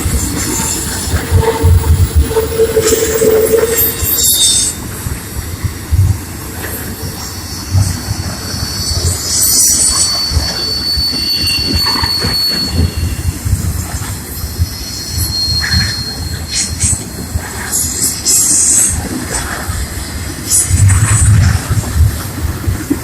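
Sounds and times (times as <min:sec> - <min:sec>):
train wheels squealing: 0:00.0 - 0:22.8
train cars rumbling and thumping: 0:00.0 - 0:23.0.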